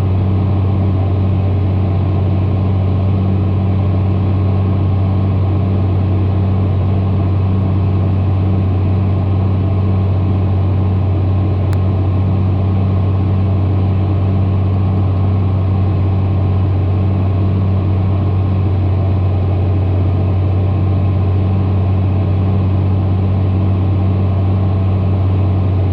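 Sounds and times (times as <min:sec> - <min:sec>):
tractor engine droning: 0:00.0 - 0:25.9.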